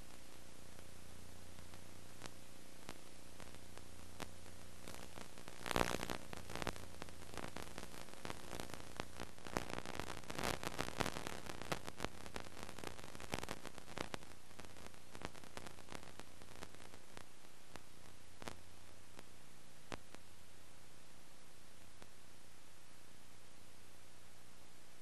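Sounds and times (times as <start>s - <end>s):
static clicks and crackles: 0.0s - 25.0s
videotape hiss and low hum: 0.0s - 25.0s.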